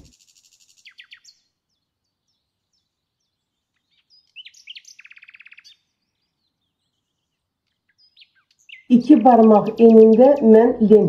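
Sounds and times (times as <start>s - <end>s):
bird trill: 0.0s - 11.0s
small birds chirping: 0.0s - 11.0s.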